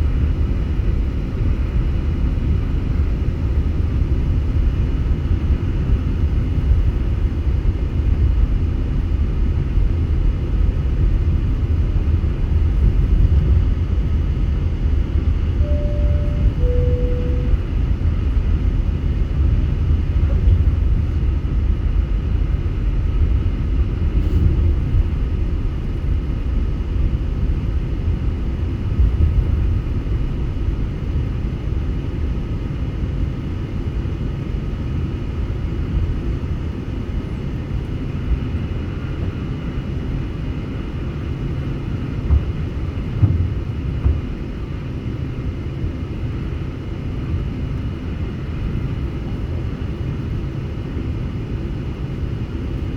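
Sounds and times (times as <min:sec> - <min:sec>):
airliner low rumble: 0:00.0 - 0:52.9.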